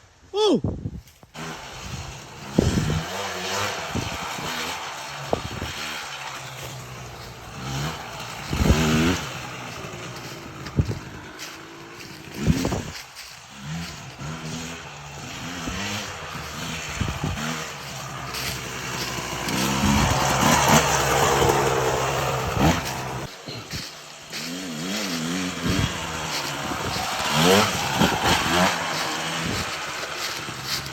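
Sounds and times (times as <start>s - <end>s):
dirt bike engine revving: 1.3s - 30.9s.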